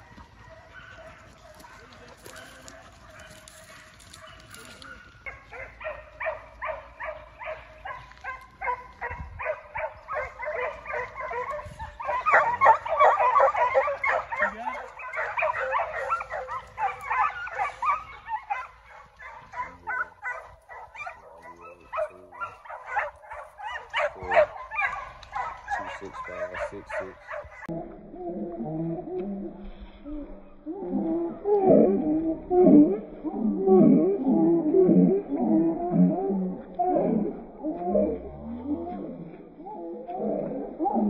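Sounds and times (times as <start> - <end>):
hounds yelping and bawling: 0.0 - 41.0.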